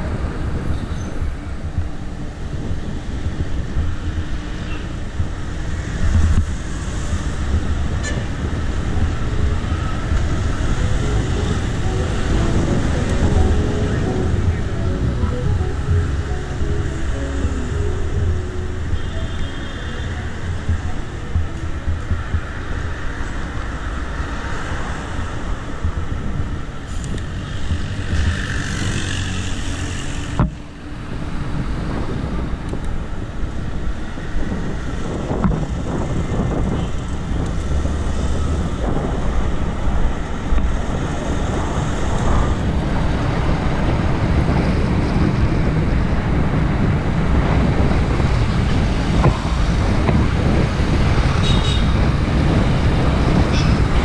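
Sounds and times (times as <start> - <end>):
road traffic noise: 0.0 - 54.0
wind rushing over microphone: 0.0 - 54.0.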